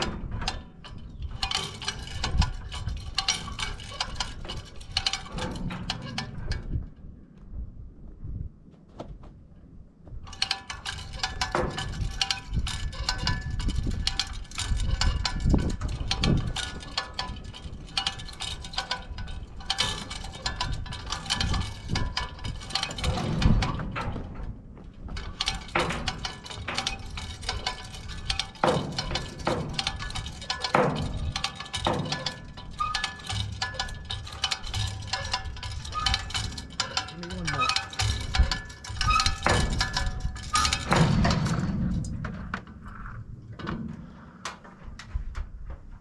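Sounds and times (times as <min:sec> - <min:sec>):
metallic clanks and knocks: 0:00.0 - 0:07.1, 0:10.1 - 0:45.9.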